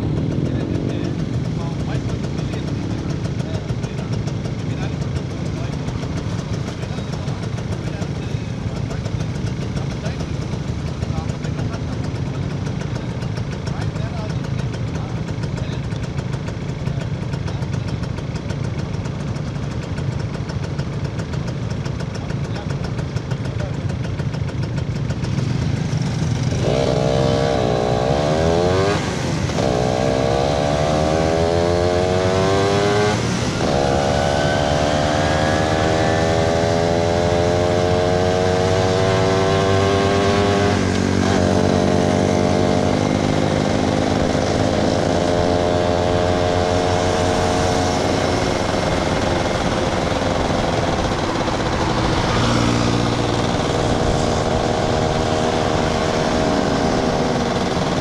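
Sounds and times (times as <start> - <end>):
motorcycle engine accelerating: 0.0 - 58.0
road and wind noise: 0.0 - 58.0.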